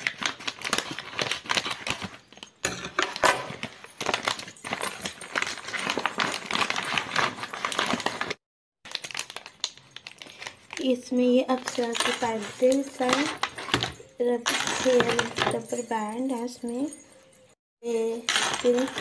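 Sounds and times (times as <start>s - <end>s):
scissors cutting plastic: 0.0s - 10.9s, 11.6s - 15.6s, 18.0s - 19.0s
plastic mailer crinkling: 0.0s - 15.9s, 18.0s - 19.0s.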